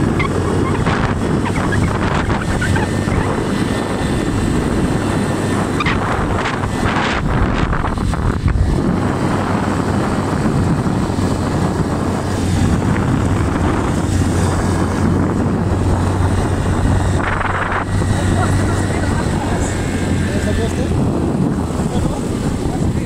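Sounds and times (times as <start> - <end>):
small motorcycle engine droning: 0.0 - 23.0.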